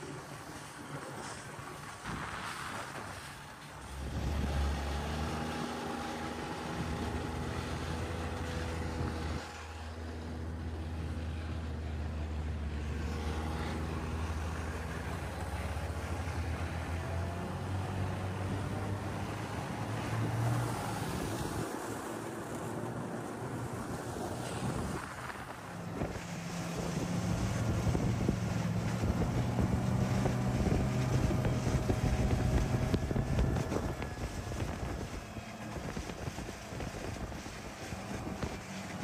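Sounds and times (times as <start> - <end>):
snowmobile engine running: 3.9 - 39.0.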